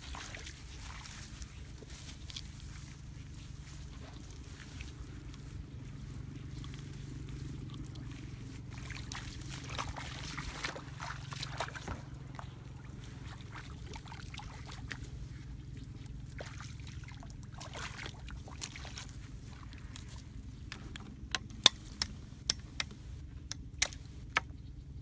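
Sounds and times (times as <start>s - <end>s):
muddy water splashing: 0.0s - 24.6s
steady low hum: 0.0s - 25.0s.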